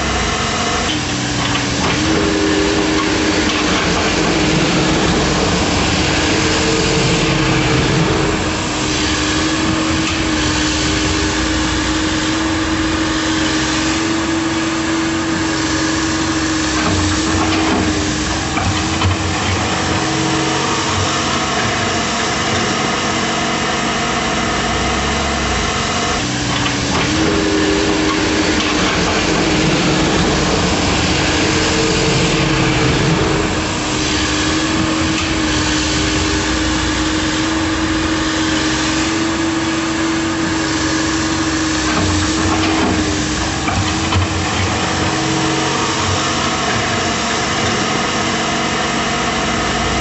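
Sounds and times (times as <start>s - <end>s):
engine humming: 0.0s - 50.0s.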